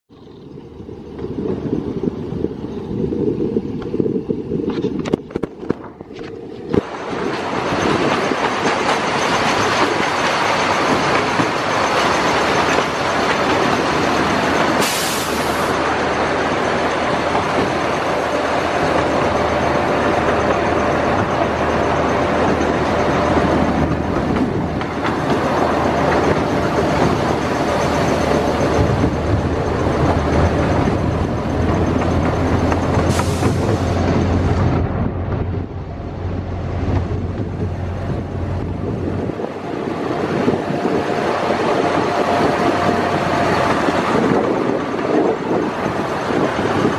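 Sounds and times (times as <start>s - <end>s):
train wheels rattling on rails: 0.4s - 46.9s.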